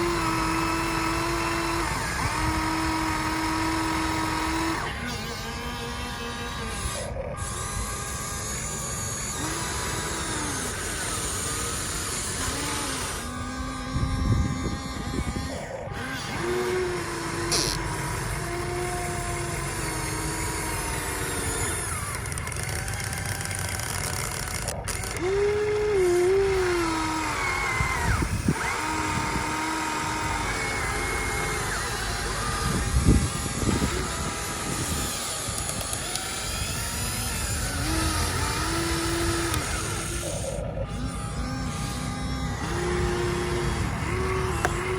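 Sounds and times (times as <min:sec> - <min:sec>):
model excavator motors whining: 0:00.0 - 0:44.9.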